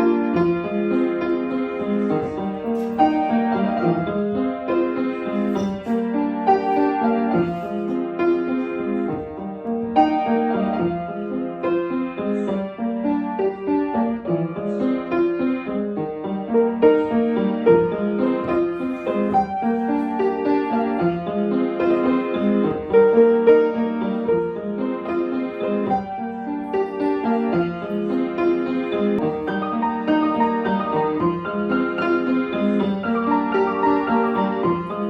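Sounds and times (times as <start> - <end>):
background piano music: 0.0 - 35.0.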